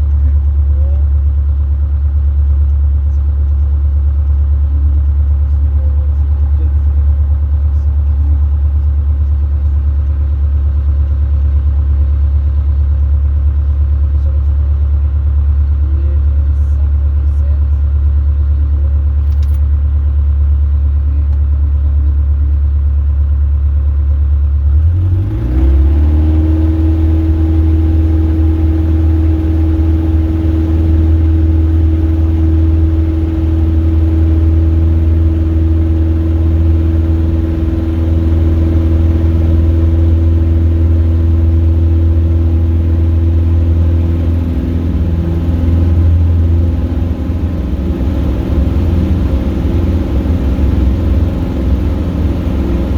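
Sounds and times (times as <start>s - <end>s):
light aircraft engine droning: 0.0s - 19.7s, 24.7s - 52.9s.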